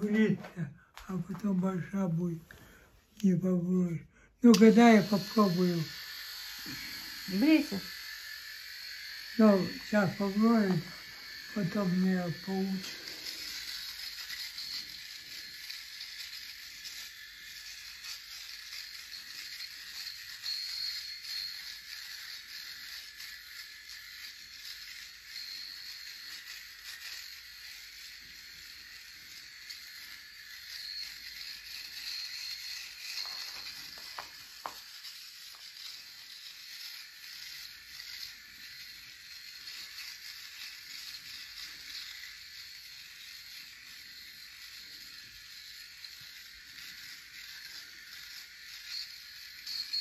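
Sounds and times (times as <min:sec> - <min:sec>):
electric razor buzzing: 0:00.0 - 0:02.8, 0:04.4 - 0:50.0.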